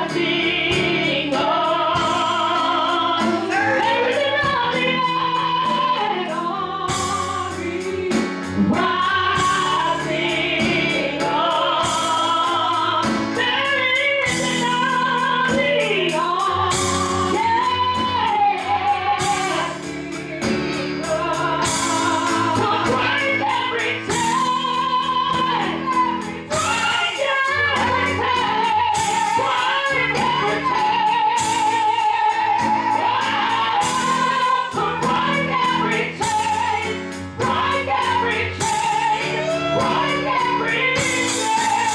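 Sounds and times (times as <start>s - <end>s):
band playing: 0.0s - 41.9s
bass notes: 0.0s - 41.9s
person singing with vibrato: 0.0s - 41.9s.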